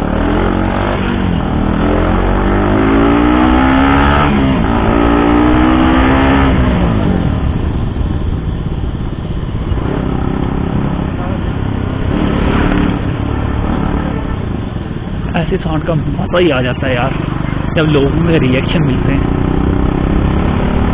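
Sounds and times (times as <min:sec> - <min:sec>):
motorcycle engine accelerating: 0:00.0 - 0:15.0, 0:15.8 - 0:20.9
road and wind noise: 0:00.0 - 0:20.9.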